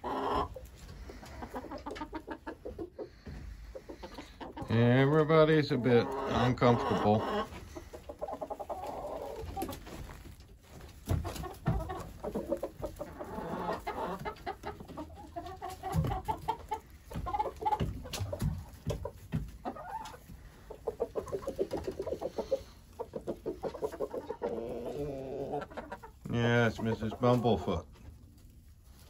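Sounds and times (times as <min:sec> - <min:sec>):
hens and roosters clucking: 0:00.0 - 0:29.0.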